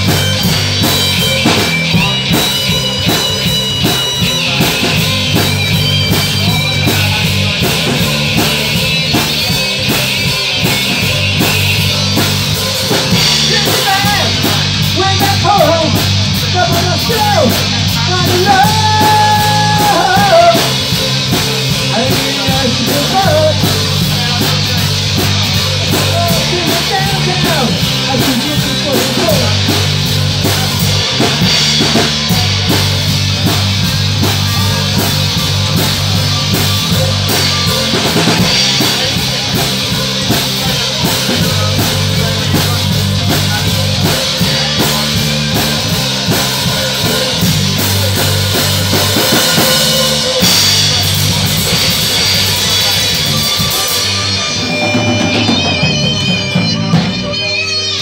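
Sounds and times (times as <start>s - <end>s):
lead guitar with pitch bends: 0.0s - 58.0s
rock band playing: 0.0s - 58.0s.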